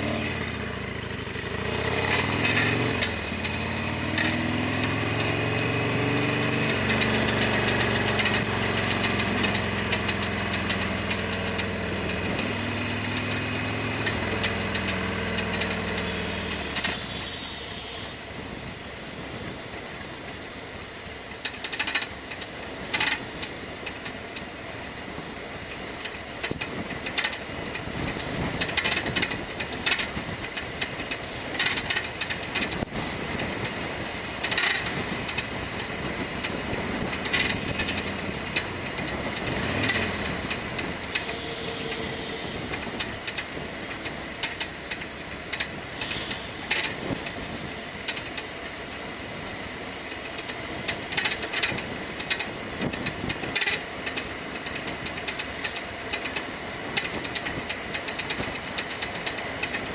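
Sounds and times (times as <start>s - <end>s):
road and wind hiss: 0.0s - 59.9s
knocks and rattles over bumps: 1.3s - 17.1s, 21.2s - 59.9s.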